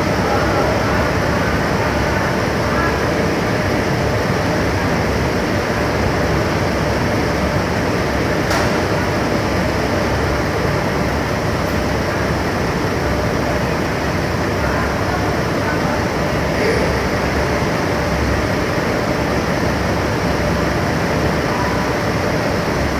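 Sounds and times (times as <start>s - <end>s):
loud machinery noise: 0.0s - 22.9s.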